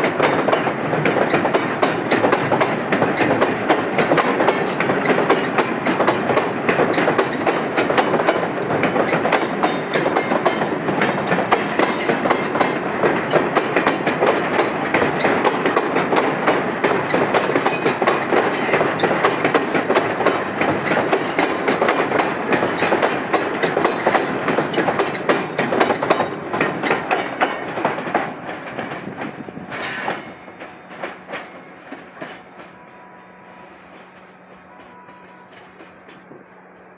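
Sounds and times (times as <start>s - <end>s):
train wheels clattering on rails: 0.0s - 36.9s.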